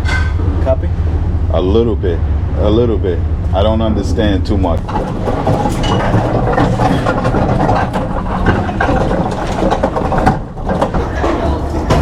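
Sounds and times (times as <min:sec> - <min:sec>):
knocks and clanks: 0:00.0 - 0:01.2, 0:03.3 - 0:12.0
heavy engine idling: 0:00.0 - 0:12.0.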